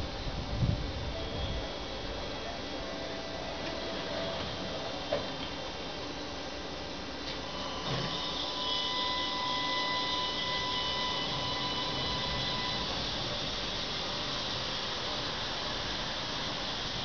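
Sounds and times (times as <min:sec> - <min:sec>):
tram electric whine: 0:00.0 - 0:17.0.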